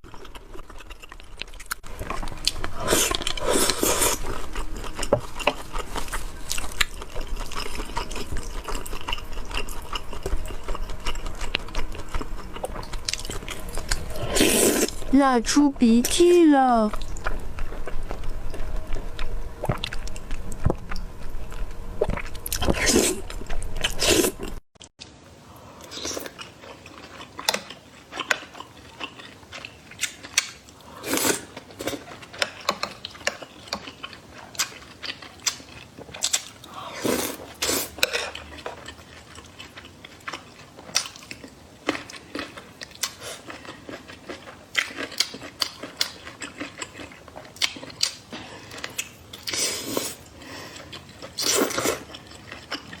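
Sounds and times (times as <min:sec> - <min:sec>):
close chewing and biting food: 0:00.0 - 0:15.1, 0:16.7 - 0:24.6, 0:25.8 - 0:53.0.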